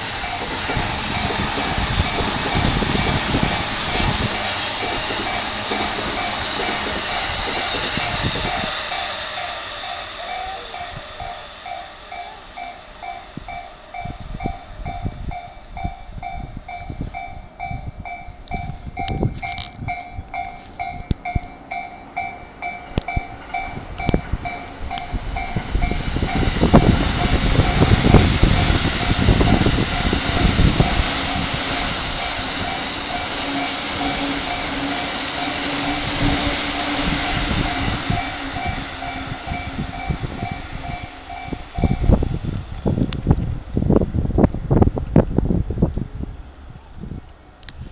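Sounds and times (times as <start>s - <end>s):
level-crossing warning bell: 0.0s - 43.1s
electric train rumbling past: 0.0s - 47.9s.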